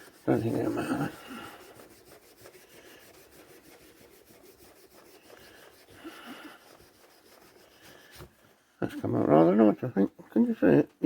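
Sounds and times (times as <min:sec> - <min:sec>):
faint scratchy rubbing of paint: 0:00.0 - 0:09.7.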